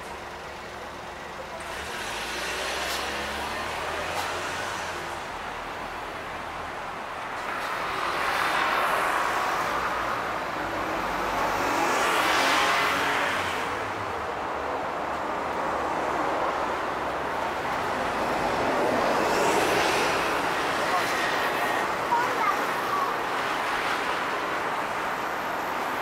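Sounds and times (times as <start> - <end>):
city bus passing: 0.0 - 26.0
cars passing: 1.2 - 26.0.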